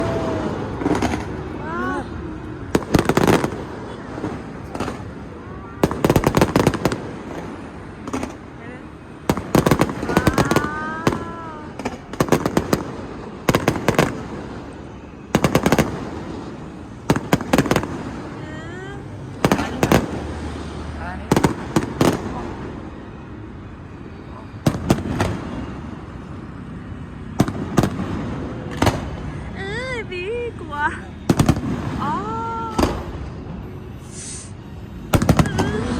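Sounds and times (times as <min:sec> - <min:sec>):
fireworks bangs: 0:00.0 - 0:23.4, 0:24.4 - 0:26.2, 0:27.1 - 0:33.5, 0:34.2 - 0:35.9
steady background noise: 0:00.0 - 0:35.9.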